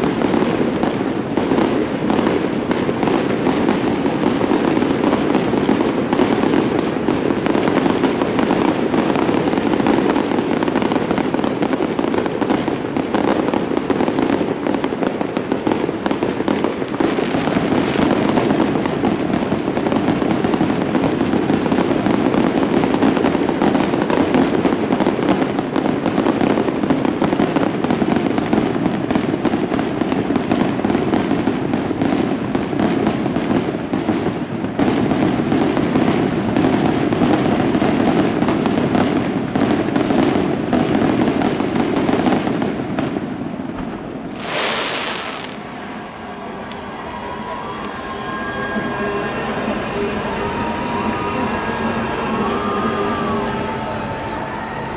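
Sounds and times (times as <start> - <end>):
fireworks bangs and crackling: 0.0 - 54.9.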